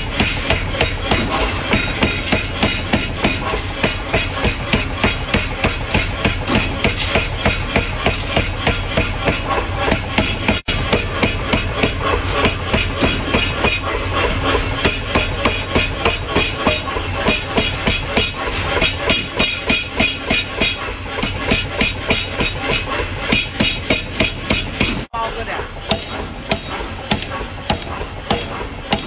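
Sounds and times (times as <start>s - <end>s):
power hammer pounding steel: 0.0s - 29.0s.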